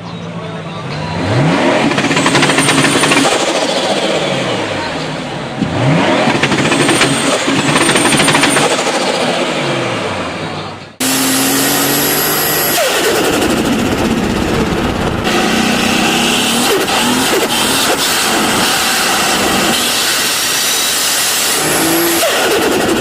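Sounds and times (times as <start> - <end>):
car engine revving: 0.8 - 23.0.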